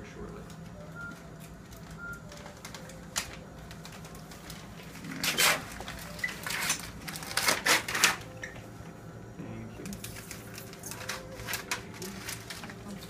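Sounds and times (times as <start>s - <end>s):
steady low hum: 0.0s - 13.0s
rustling crinkling handling noises: 0.2s - 8.6s, 9.8s - 13.0s.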